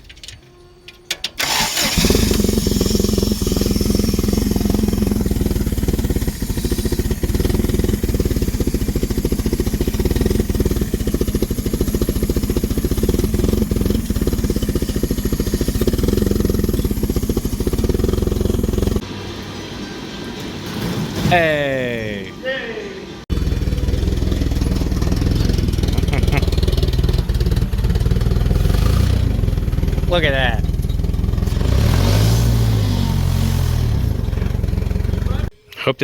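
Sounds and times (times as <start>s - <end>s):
forklift engine running: 0.0s - 20.8s, 23.1s - 35.5s.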